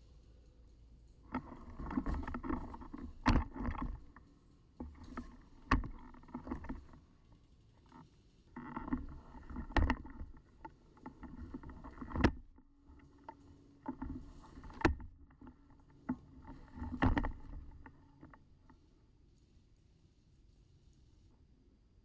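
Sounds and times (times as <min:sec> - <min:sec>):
gear rustling and scraping: 0:00.0 - 0:21.3.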